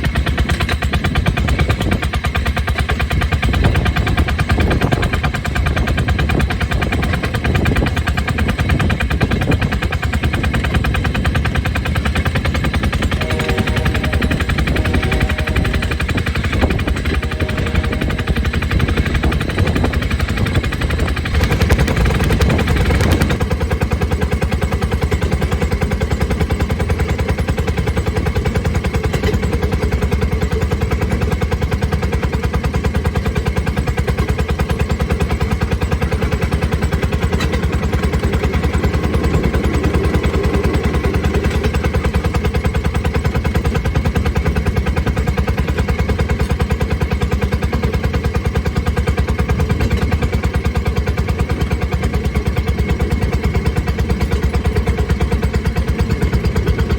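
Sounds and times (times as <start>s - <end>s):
small engine exhaust popping: 0.0s - 56.9s.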